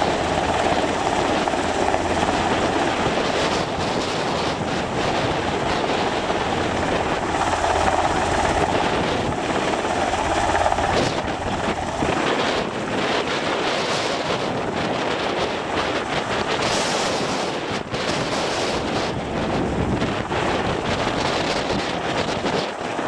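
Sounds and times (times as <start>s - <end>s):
helicopter rotor and engine whine: 0.0s - 23.0s.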